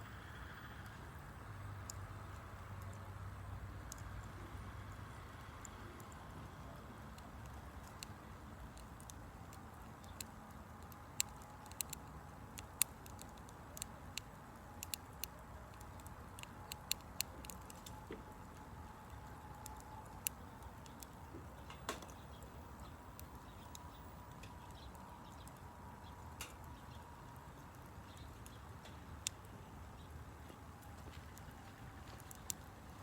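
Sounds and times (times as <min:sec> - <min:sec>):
low steady hiss: 0:00.0 - 0:33.0
campfire crackling and popping: 0:00.8 - 0:33.0.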